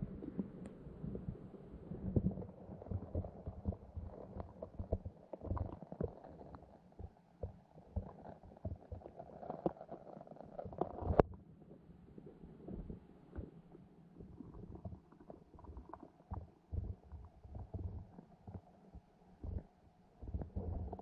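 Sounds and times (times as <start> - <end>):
muffled underwater creek water rumble: 0.0 - 21.0.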